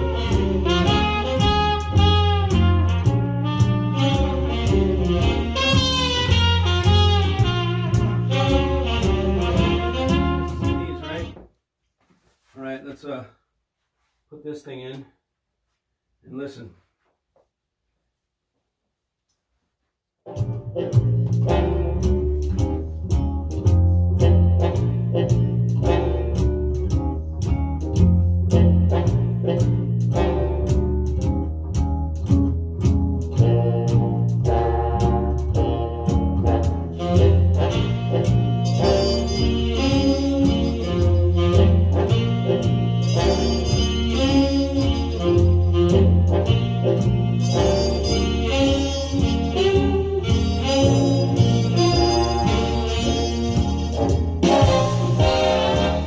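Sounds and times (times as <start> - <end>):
big band jazz on stereo: 0.0 - 11.5, 20.2 - 56.0.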